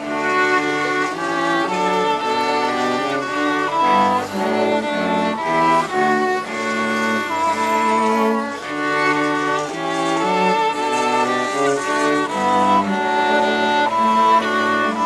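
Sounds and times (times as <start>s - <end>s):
street ensemble playing melody: 0.0s - 15.0s.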